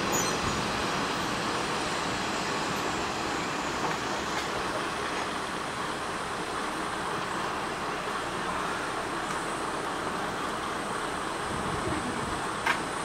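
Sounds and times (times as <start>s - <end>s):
railcar rumbling on rails: 0.0s - 13.0s.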